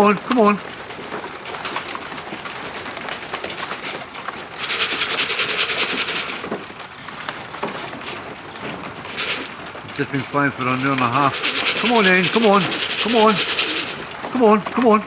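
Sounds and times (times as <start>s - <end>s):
pigeon wings flapping: 0.0s - 15.0s.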